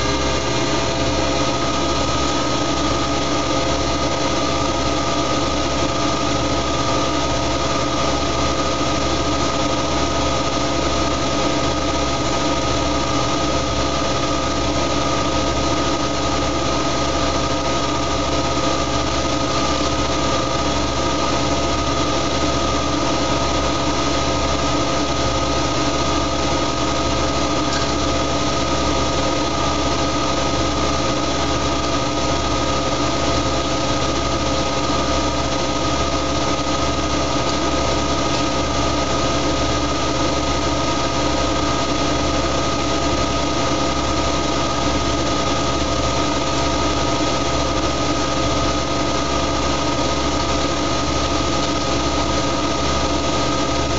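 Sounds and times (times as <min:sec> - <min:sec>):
washing machine motor whine: 0:00.0 - 0:53.9.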